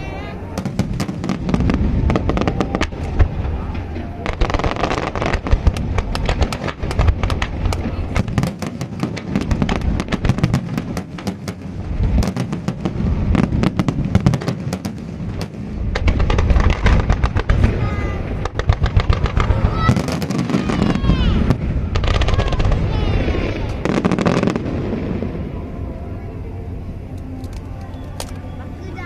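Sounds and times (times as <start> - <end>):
fireworks low booms: 0.4 - 26.8
fireworks crackling pops: 0.6 - 25.2.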